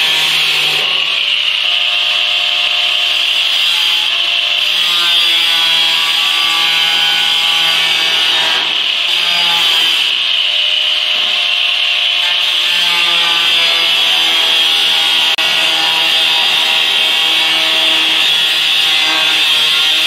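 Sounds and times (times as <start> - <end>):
angle grinder cutting sheet metal: 0.0 - 20.0.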